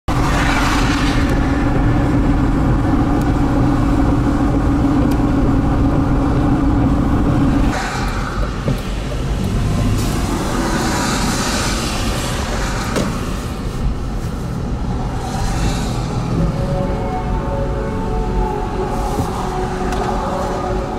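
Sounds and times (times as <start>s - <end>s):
car road noise drone: 0.1s - 20.9s.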